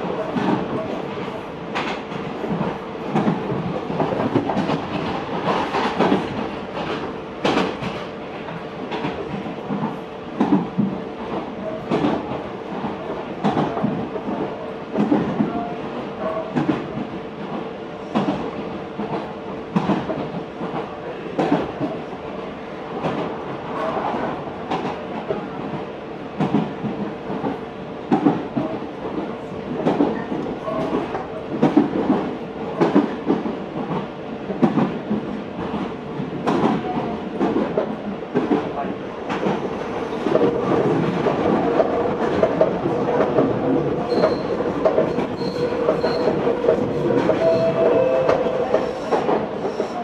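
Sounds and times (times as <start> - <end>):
train rumble and hum: 0.0 - 50.0.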